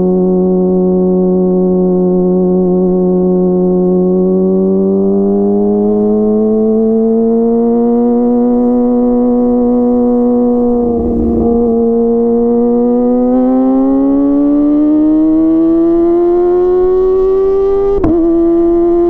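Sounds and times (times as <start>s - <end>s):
motorcycle engine revving: 2.2s - 19.0s.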